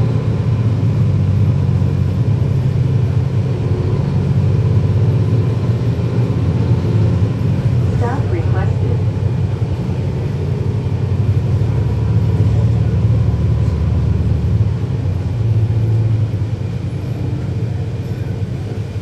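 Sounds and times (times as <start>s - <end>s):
bus diesel engine rumble: 0.0s - 19.0s.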